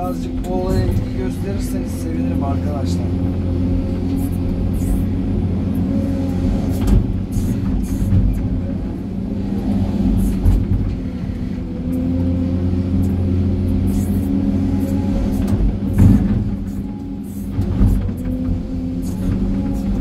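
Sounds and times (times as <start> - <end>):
excavator diesel engine: 0.0 - 20.0.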